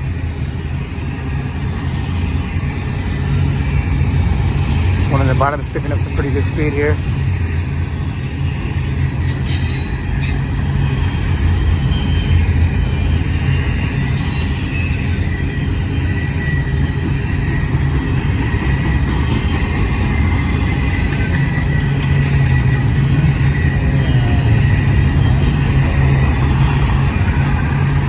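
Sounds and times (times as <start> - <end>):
freight train rumbling by: 0.0 - 28.0.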